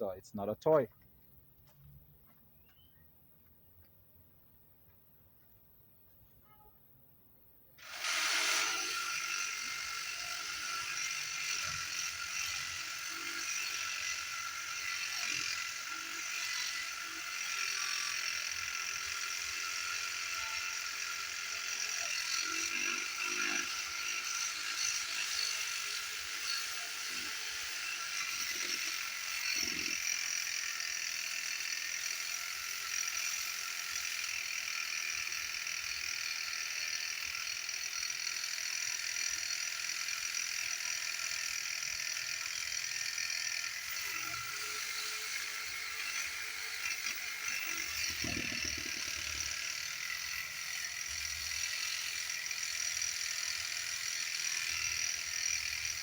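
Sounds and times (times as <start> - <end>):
reciprocating saw cutting wood: 7.8 - 56.0.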